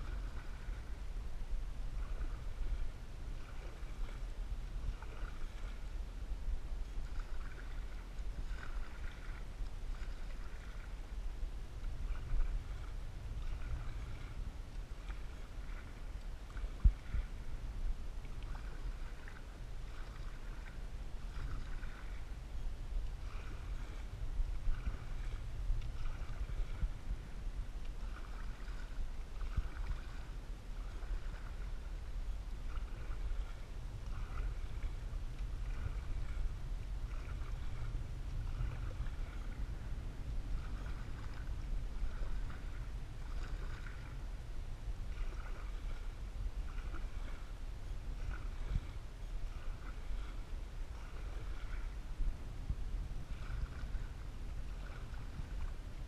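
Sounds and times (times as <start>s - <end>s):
low rumble: 0.0s - 56.0s
paddle swishing through water: 0.0s - 56.0s.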